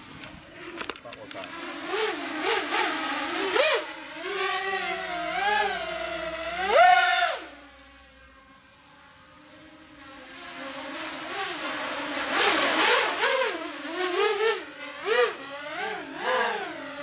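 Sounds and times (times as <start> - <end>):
racing drone motors whining: 0.0 - 17.0.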